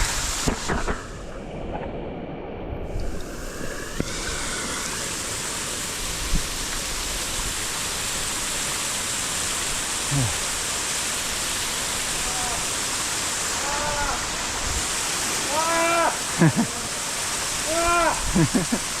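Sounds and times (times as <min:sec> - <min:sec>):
waterfall pouring: 0:02.9 - 0:19.0.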